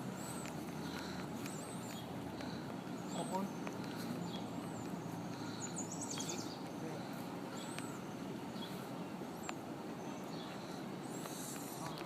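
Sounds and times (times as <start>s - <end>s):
birds chirping: 0.0s - 12.0s
low outdoor rumble: 0.0s - 12.0s.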